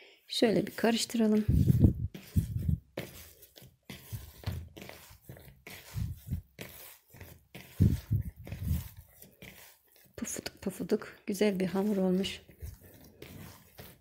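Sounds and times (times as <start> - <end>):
dough kneaded by hand: 0.3 - 14.0.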